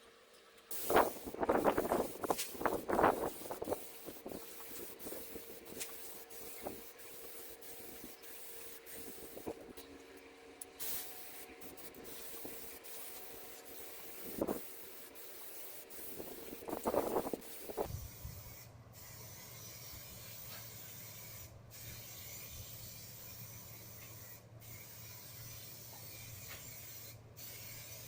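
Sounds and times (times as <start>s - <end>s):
aerosol spray paint hissing: 0.7s - 9.8s, 10.8s - 28.0s.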